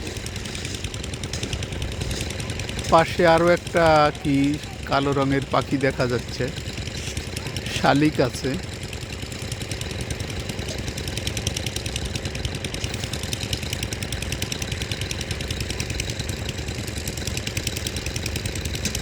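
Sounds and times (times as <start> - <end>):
engine knocking: 0.0 - 19.0.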